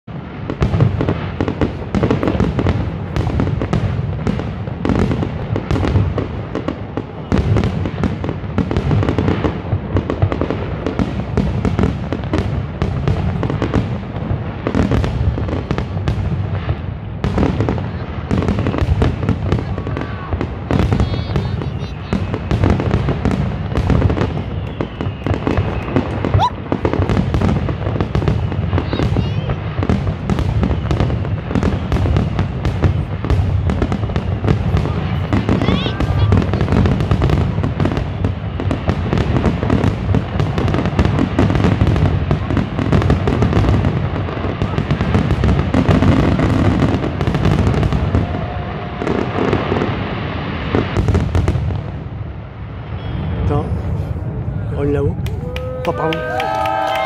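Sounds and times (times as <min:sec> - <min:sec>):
fireworks booms and cracks: 0:00.0 - 0:57.0.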